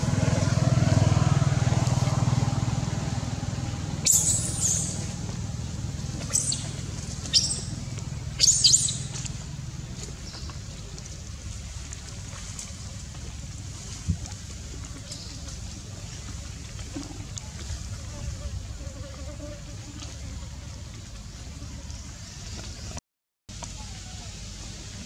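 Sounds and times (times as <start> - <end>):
vehicle engine passing: 0.0 - 22.2.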